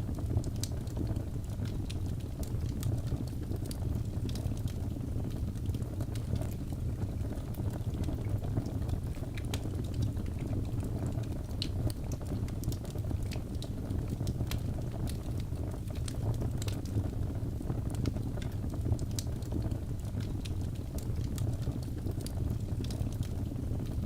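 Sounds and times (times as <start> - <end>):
burning logs crackling: 0.0 - 24.0
fire flames rumbling: 0.0 - 24.0.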